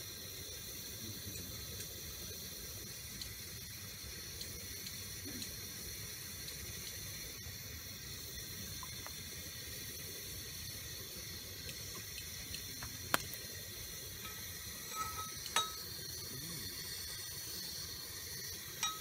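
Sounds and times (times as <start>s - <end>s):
camp stove burner hissing: 0.0s - 19.0s
faint ticks of oil in pan: 0.0s - 19.0s.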